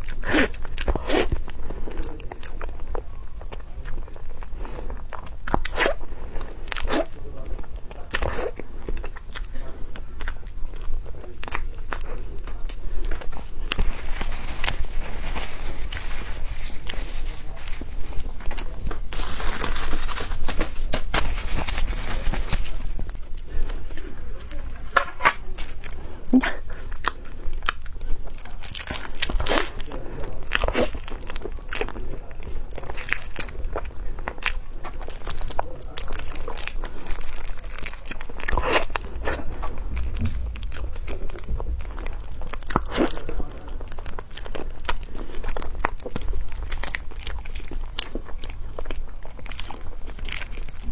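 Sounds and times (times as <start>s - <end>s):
crunchy chewing: 0.0s - 50.9s.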